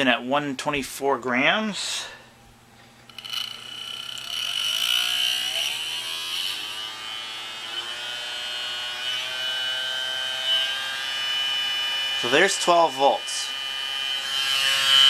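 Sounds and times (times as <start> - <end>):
small motor fan whining: 2.6 - 15.0.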